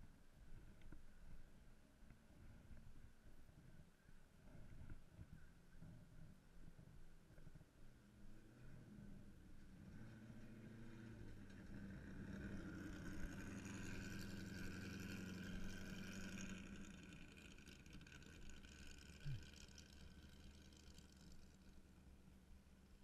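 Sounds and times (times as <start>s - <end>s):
dune buggy engine driving past: 0.0s - 23.0s.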